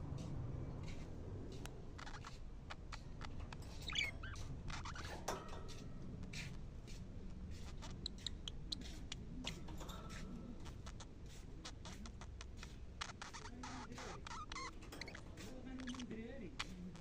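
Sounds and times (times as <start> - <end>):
budgerigars chattering: 2.0 - 6.6, 7.5 - 17.0.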